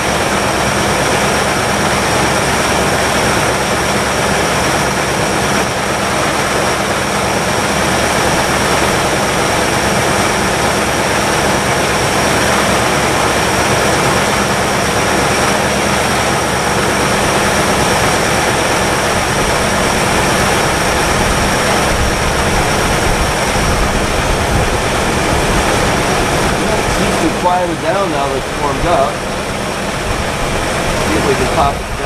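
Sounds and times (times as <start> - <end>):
car engine at fast idle: 0.0 - 32.0.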